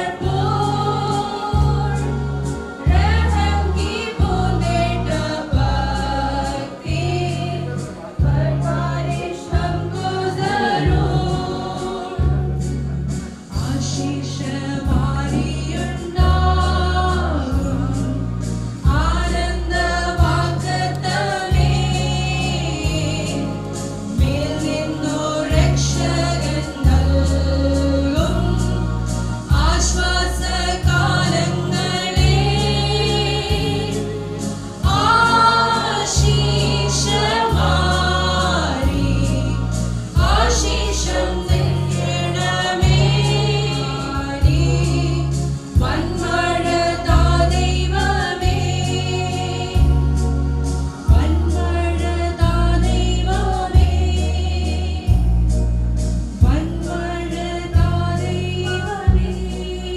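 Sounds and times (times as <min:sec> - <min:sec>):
steady bass line: 0:00.0 - 0:59.9
worship song singing: 0:00.0 - 0:59.9.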